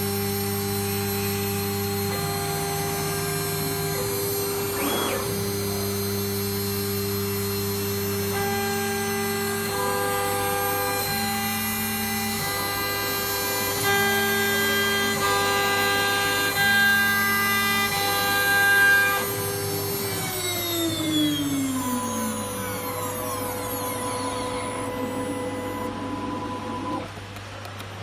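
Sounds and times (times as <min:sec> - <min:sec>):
router machine whine: 0:00.0 - 0:27.7.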